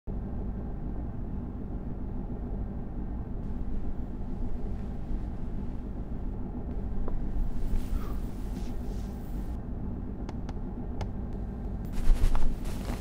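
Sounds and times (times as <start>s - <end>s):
faint hum: 0.1s - 13.0s
steady low rumble: 0.1s - 13.0s.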